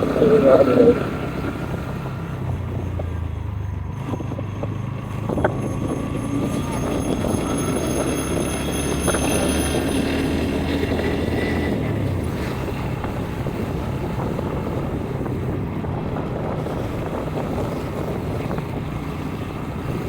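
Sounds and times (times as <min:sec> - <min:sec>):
motorcycle engine running: 0:00.0 - 0:20.0
wind roar on microphone: 0:00.0 - 0:20.0.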